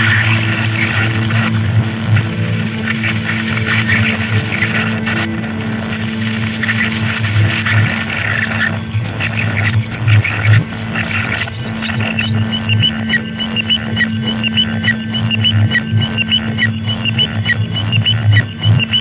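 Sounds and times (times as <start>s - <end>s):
droning hum: 0.0s - 19.0s
low throbbing pulse: 0.0s - 19.0s.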